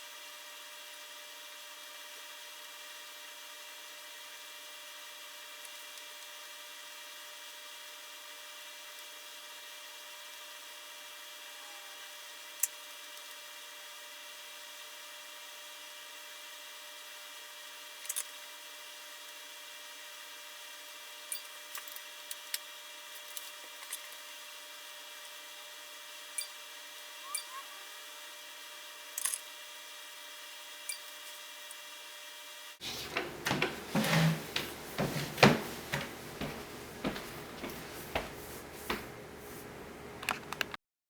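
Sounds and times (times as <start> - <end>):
faint room hiss and hum: 0.0 - 40.8.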